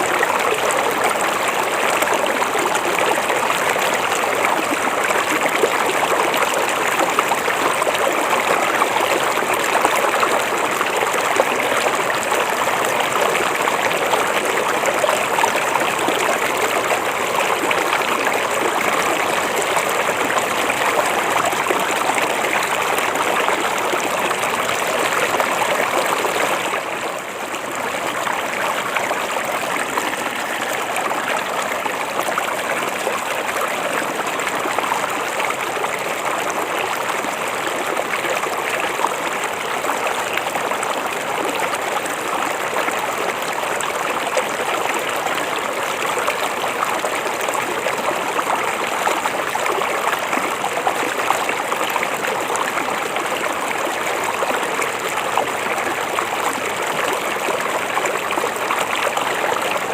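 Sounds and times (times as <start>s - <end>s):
river water rushing and babbling: 0.0s - 59.9s.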